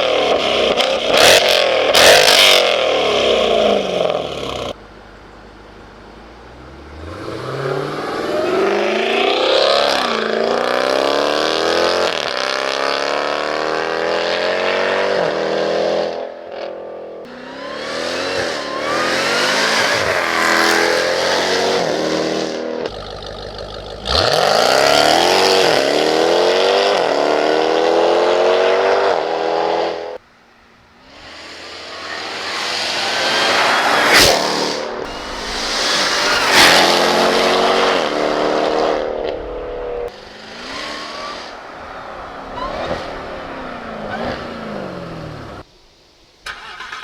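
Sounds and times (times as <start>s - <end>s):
car engine accelerating: 0.0s - 16.2s, 17.2s - 30.2s, 31.0s - 45.7s.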